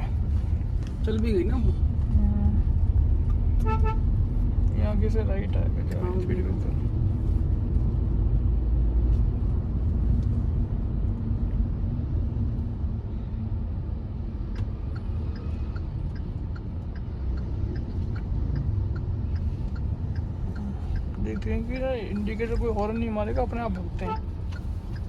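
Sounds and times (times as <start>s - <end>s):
engine and road rumble in car: 0.0s - 25.0s
turn signal ticking: 0.0s - 25.0s.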